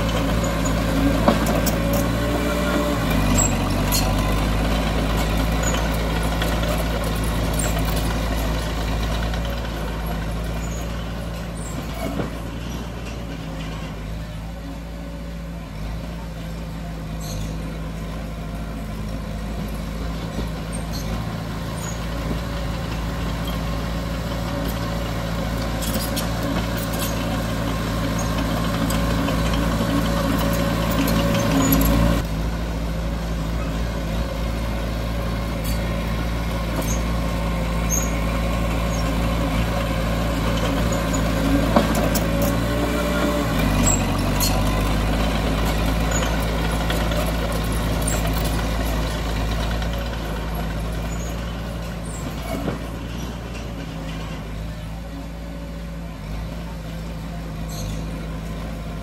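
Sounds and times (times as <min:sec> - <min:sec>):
faint clanks and squeaks: 0:00.0 - 0:15.1, 0:17.1 - 0:17.9, 0:20.2 - 0:32.2, 0:35.5 - 0:54.9
heavy machinery diesel engine: 0:00.0 - 0:59.0.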